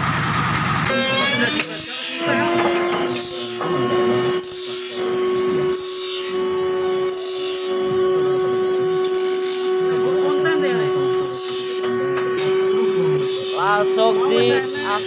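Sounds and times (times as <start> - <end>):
bench grinder motor humming: 0.0 - 15.0
grinding wheel rasping on saw teeth: 0.8 - 15.0.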